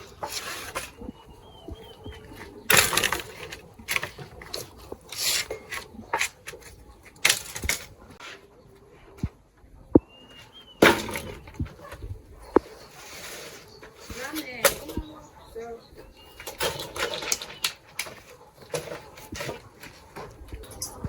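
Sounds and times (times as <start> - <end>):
scraping and rubbing: 0.0 - 9.2, 11.1 - 21.0.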